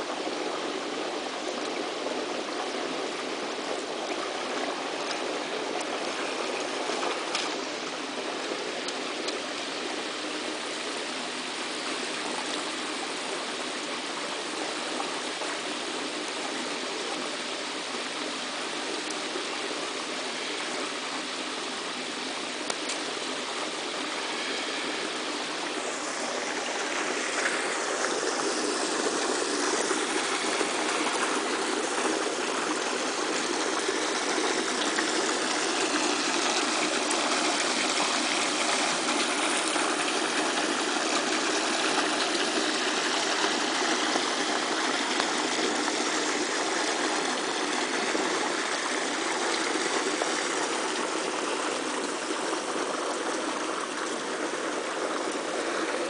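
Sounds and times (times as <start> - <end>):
water rushing and splashing: 0.0 - 56.0.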